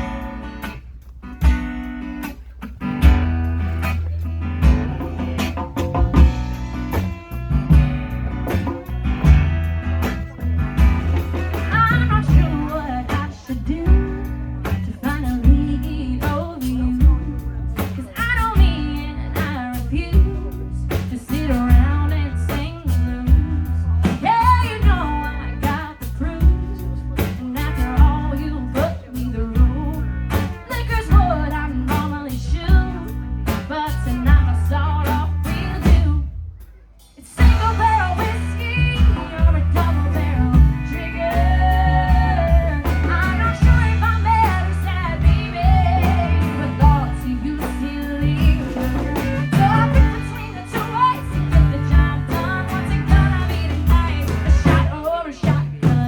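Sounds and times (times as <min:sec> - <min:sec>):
rock band with singer: 0:00.0 - 0:56.0.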